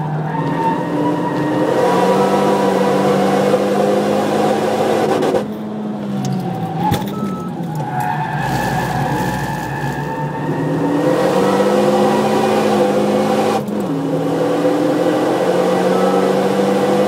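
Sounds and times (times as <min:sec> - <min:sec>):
car engine revving: 0:00.0 - 0:05.6, 0:08.1 - 0:17.0
tyre and road noise: 0:00.0 - 0:14.5.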